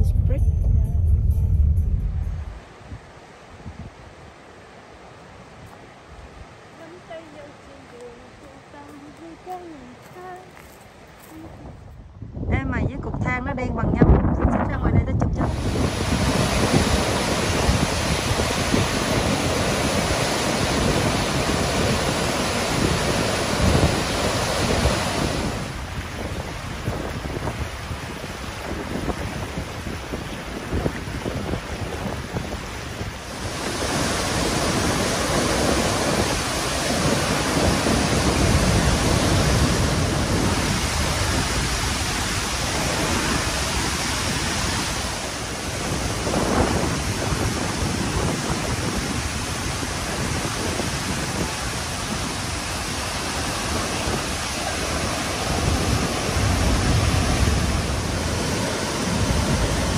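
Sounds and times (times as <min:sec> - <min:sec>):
large waterfall rushing: 0:02.3 - 0:11.8, 0:15.4 - 0:59.9
river rapids rushing: 0:02.5 - 0:11.7, 0:15.5 - 0:59.9.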